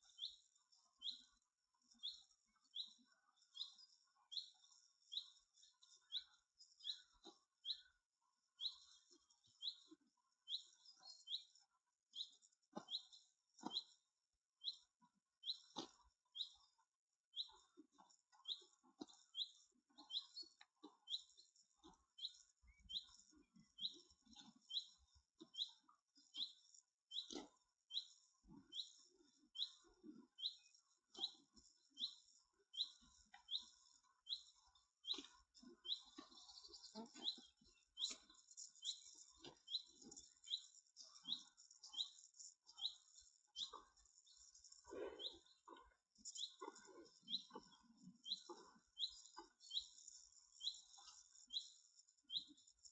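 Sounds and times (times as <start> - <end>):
small bird chirping: 0.0 - 52.9.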